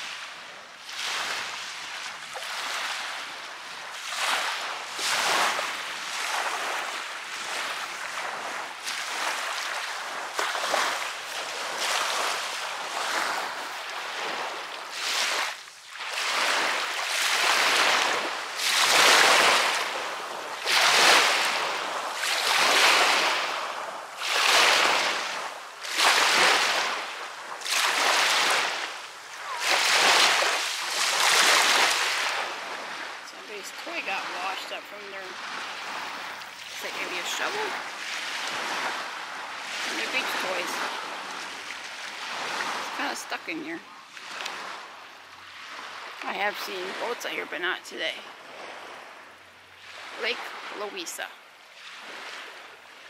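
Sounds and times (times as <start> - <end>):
small waves lapping on shore: 0.0 - 53.0.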